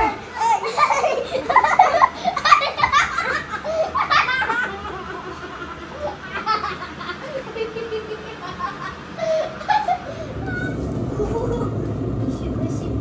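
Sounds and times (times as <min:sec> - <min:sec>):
boy laughing: 0:00.0 - 0:11.8.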